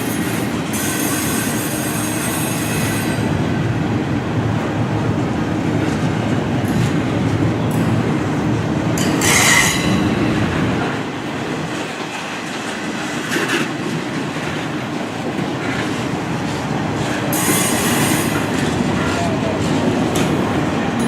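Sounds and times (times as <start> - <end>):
train wheels clattering on rails: 0.0 - 3.6, 5.2 - 21.0.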